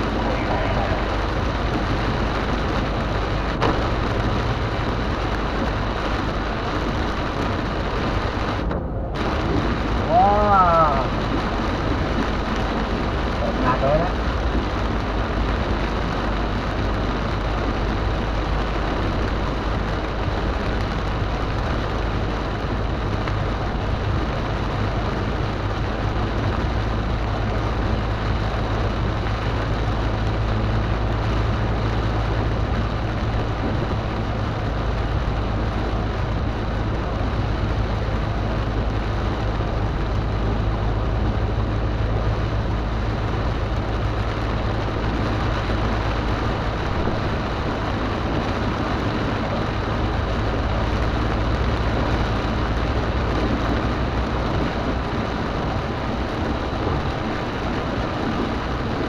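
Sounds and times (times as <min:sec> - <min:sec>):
car road noise and engine hum: 0:00.0 - 0:59.0
rain hissing and wet tyres: 0:00.0 - 0:59.0.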